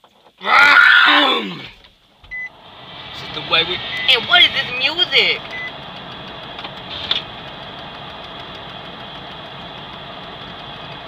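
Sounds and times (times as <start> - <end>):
vehicle engine idling: 1.9 - 11.0.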